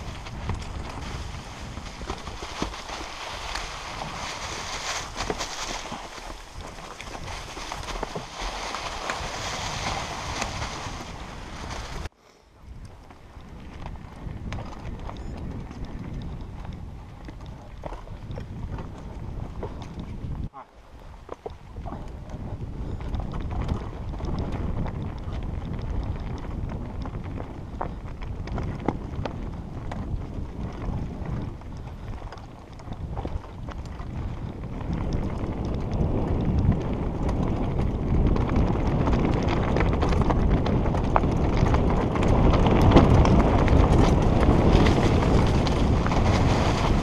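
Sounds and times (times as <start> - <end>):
bike rattling over rocks: 0.0 - 12.1, 12.8 - 47.0
bike tyres rolling: 0.0 - 47.0
wind buffeting microphone: 0.0 - 47.0.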